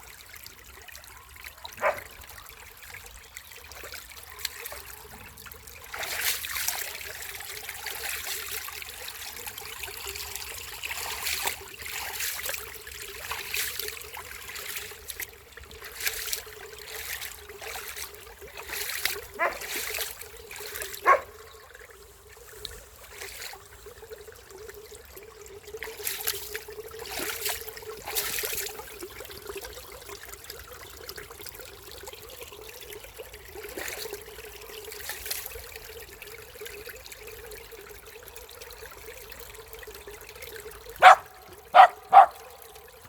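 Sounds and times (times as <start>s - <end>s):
water trickling and splashing: 0.0s - 43.0s.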